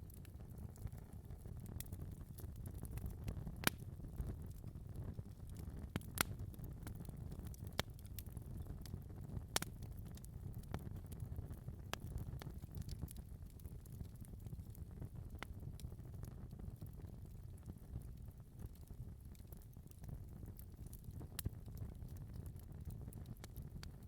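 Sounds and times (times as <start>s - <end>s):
fire burning with crackles: 0.0s - 24.0s.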